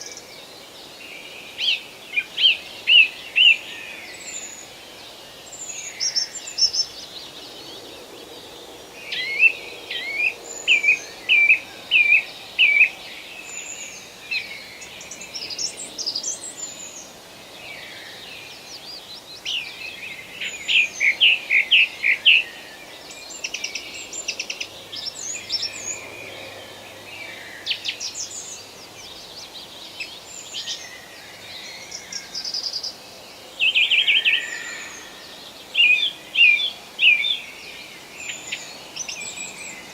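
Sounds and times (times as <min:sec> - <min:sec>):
faint background hiss: 0:00.0 - 0:39.9
songbirds singing and calling: 0:00.0 - 0:39.9.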